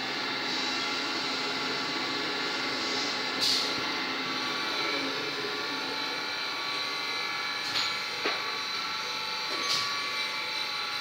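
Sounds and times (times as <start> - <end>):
workshop machine drone: 0.0 - 11.0.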